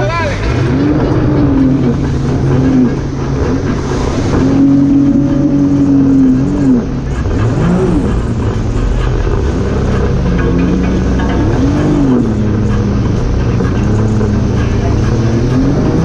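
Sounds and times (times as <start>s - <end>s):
jet ski engine revving: 0.4s - 16.0s.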